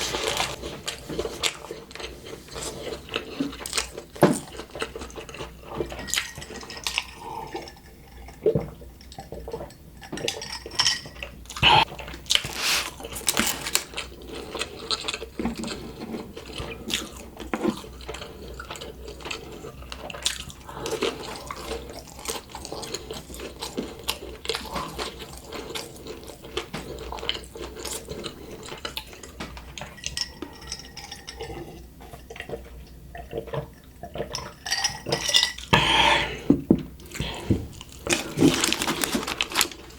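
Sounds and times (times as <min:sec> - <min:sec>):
wet chewing with mouth clicks: 0:00.0 - 0:10.1, 0:11.5 - 0:39.9.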